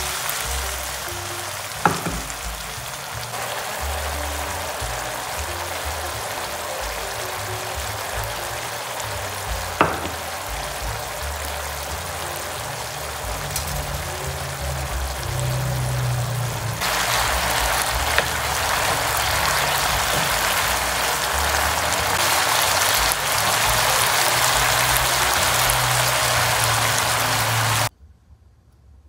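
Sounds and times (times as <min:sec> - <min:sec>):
background music with bass: 0:00.0 - 0:27.9
meat sizzling in a pan: 0:00.0 - 0:27.9.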